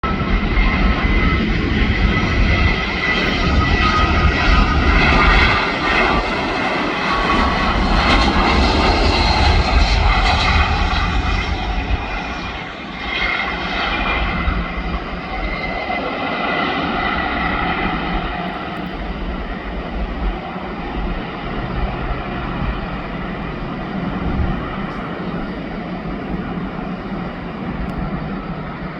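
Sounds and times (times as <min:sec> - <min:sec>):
jet engines roaring with whine: 0:00.0 - 0:28.9.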